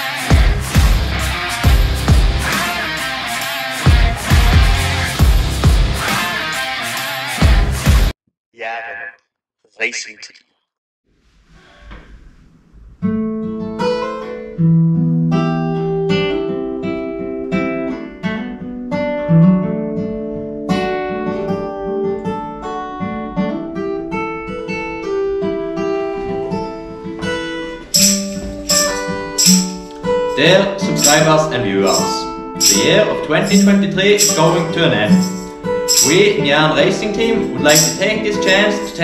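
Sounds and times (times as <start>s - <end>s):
acoustic guitar picked tune: 0.0s - 7.5s, 12.9s - 39.0s.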